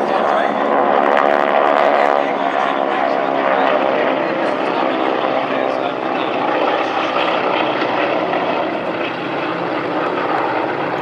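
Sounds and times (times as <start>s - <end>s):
propeller aircraft droning: 0.0s - 11.0s.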